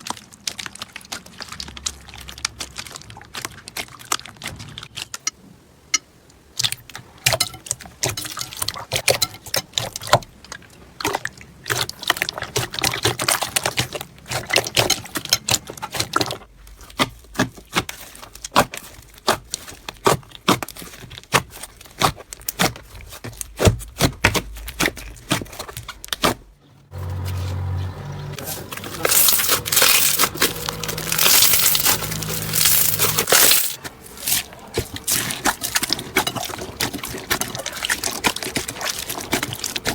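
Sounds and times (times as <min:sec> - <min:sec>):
slime squishing by hand: 0:00.0 - 0:05.3, 0:06.6 - 0:26.6, 0:28.4 - 0:39.9.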